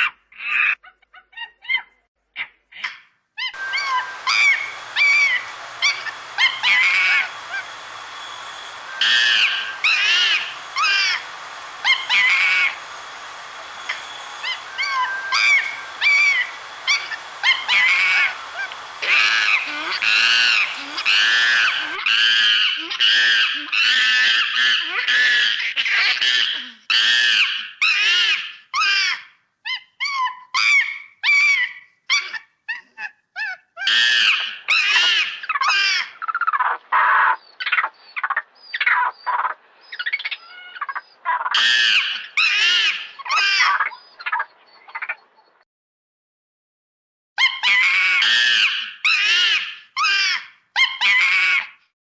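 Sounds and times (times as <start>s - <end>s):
monkey high-pitched calls: 0.4s - 45.2s, 47.4s - 51.7s.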